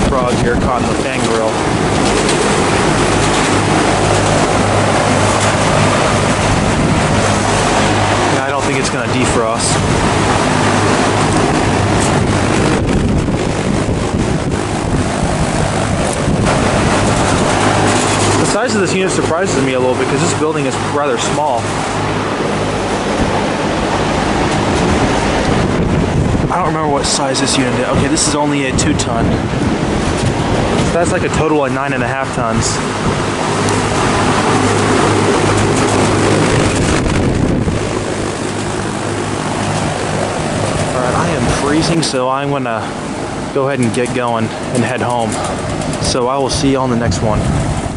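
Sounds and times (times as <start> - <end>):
fan air rush: 0.0 - 47.9
low compressor hum: 0.0 - 47.9
wind noise on microphone: 0.0 - 47.9.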